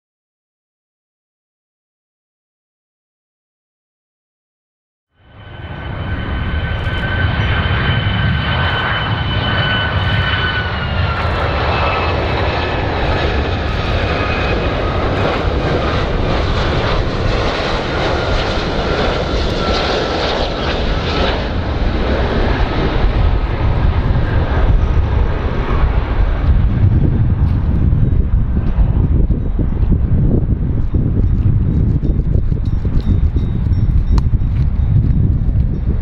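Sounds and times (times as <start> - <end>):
jet airliner rumble with whine: 5.2 - 36.0.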